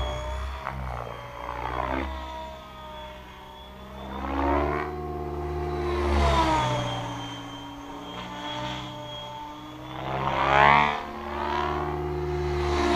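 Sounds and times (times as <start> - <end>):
electric motor whine: 0.0 - 12.9
rc helicopter rotor hum: 0.0 - 12.9.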